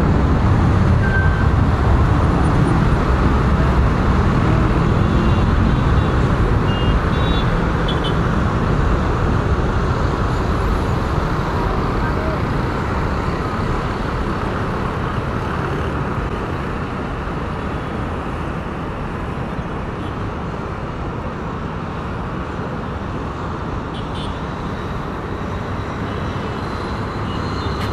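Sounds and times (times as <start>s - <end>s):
jet engines at takeoff: 0.0s - 27.9s.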